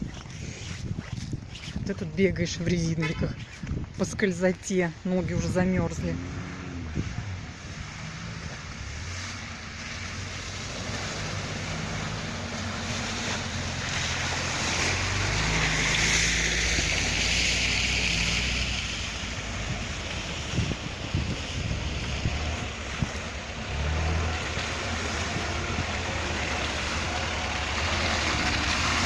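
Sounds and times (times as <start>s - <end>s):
wheels splashing mud: 0.0s - 29.0s
off-road vehicle engine under load: 1.9s - 29.0s.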